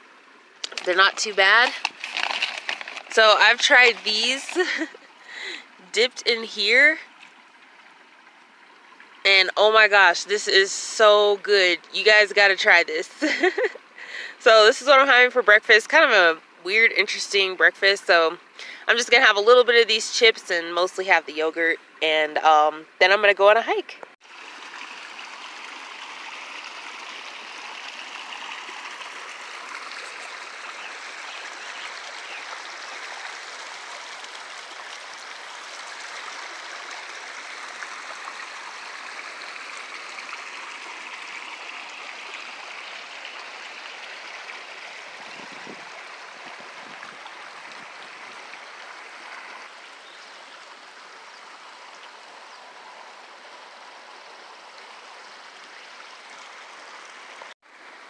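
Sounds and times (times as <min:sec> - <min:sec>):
water rushing over stones: 0:00.0 - 0:23.6, 0:24.2 - 0:58.0.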